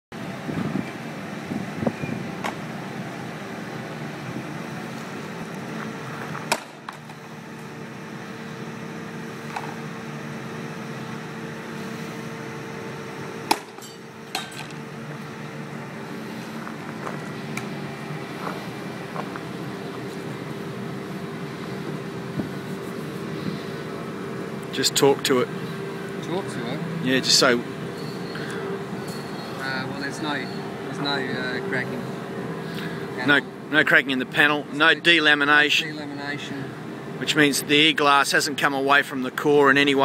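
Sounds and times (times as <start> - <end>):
steady hum: 0.2 - 40.0.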